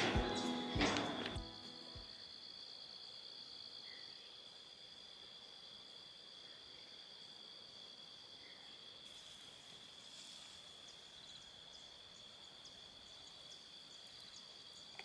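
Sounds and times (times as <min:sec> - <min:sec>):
insect chirps: 0:00.0 - 0:15.0
insects trilling: 0:00.0 - 0:15.0.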